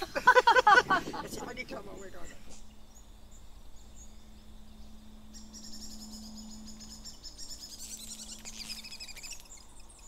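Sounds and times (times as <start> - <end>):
faint steady hum: 0.0 - 10.0
small birds chirping: 1.0 - 10.0.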